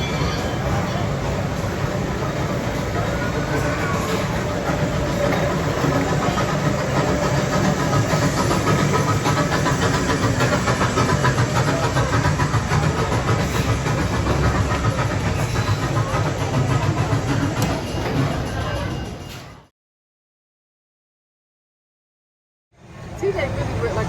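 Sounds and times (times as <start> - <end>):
miniature train rumbling on track: 0.0 - 19.7, 22.8 - 24.0.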